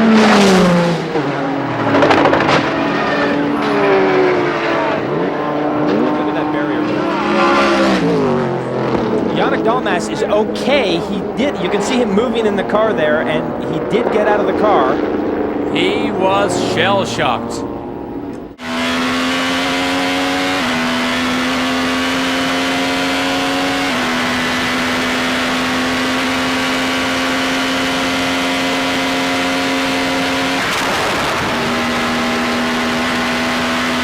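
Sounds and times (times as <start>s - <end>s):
racing car engine at high revs: 0.0s - 34.0s.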